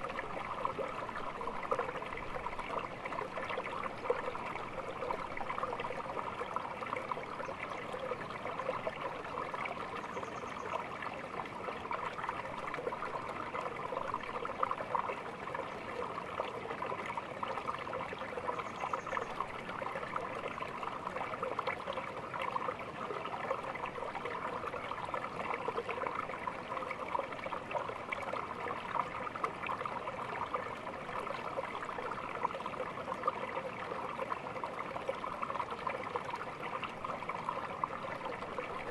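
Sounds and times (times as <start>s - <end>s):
small stream babbling: 0.0s - 38.9s.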